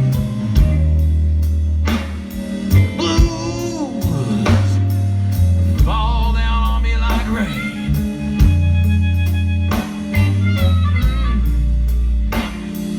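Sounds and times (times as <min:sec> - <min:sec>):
heavy bass line: 0:00.0 - 0:12.9
sliding bending lead guitar melody: 0:00.0 - 0:12.9.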